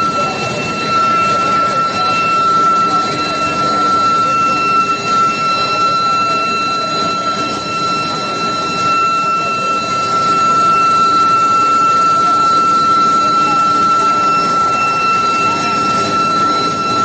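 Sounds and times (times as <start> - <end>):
induction coil high-pitched whine: 0.0 - 17.0
rushing machine noise: 0.0 - 17.0.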